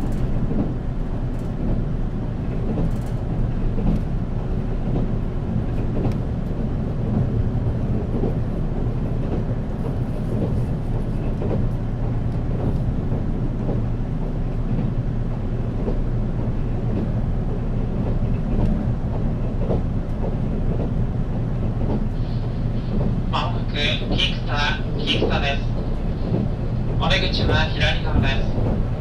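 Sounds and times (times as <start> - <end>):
train cabin running rumble: 0.0 - 29.0.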